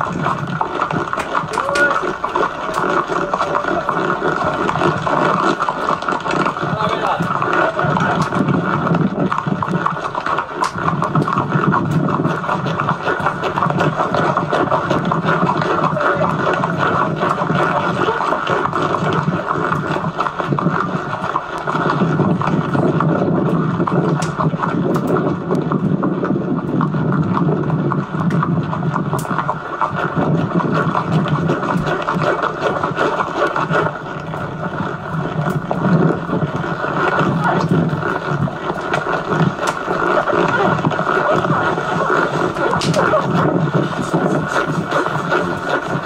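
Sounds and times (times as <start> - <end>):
rough recording noise: 0.0 - 46.0.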